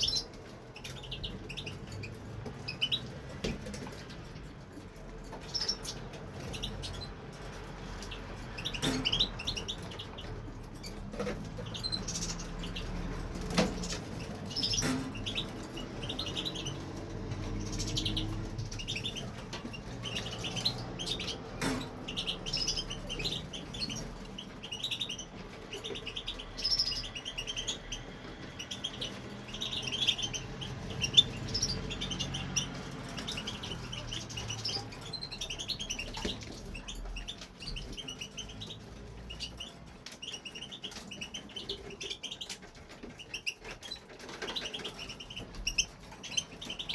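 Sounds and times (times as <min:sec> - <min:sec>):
goldfinch twittering song: 0:00.0 - 0:46.9.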